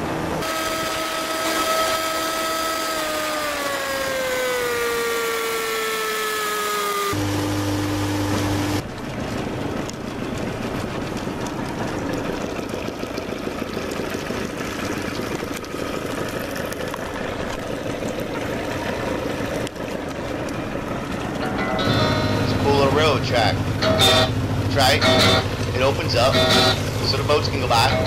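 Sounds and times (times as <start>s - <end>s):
boat motor running: 0.0s - 28.0s.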